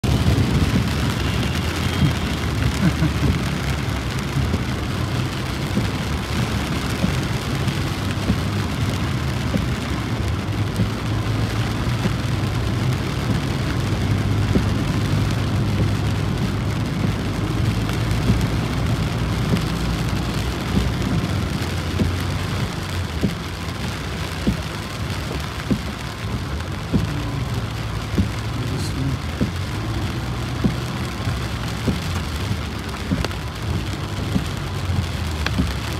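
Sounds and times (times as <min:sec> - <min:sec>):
heavy rain on car roof: 0:00.0 - 0:35.9
low engine hum: 0:00.0 - 0:35.9.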